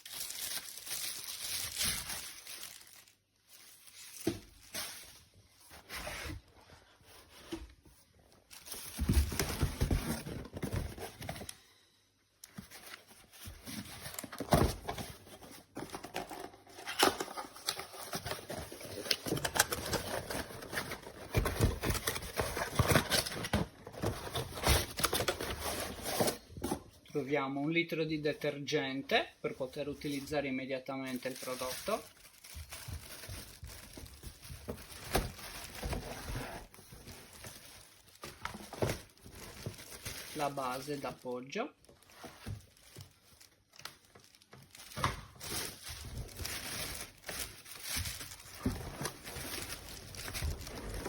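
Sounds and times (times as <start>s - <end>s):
packaging rustling and crinkling: 0.0s - 11.8s, 12.4s - 27.0s, 29.7s - 51.0s.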